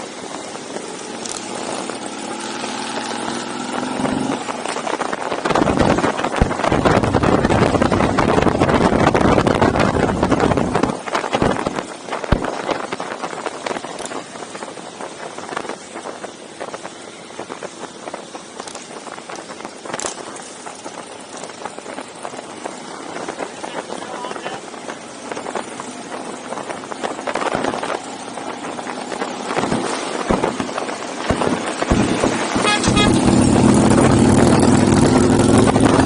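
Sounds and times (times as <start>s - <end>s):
motorcycle engines rumbling: 0.0s - 36.0s.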